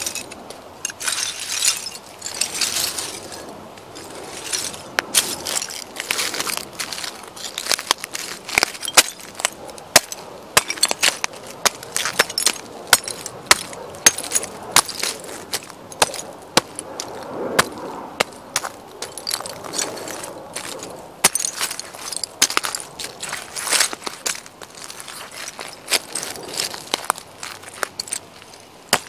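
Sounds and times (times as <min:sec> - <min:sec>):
china shards cracking underfoot: 0:00.0 - 0:17.1, 0:18.6 - 0:29.0
gritty grinding of shards: 0:00.0 - 0:29.0.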